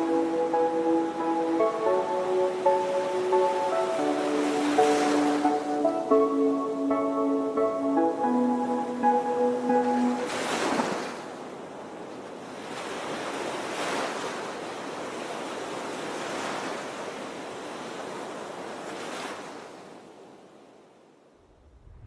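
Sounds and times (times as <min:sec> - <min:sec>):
sea waves washing in: 0:00.0 - 0:20.5, 0:21.5 - 0:22.0.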